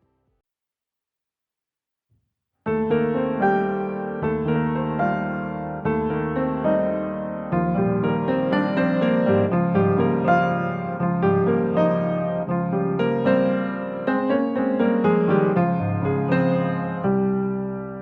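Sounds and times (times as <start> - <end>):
piano music: 2.7 - 18.0.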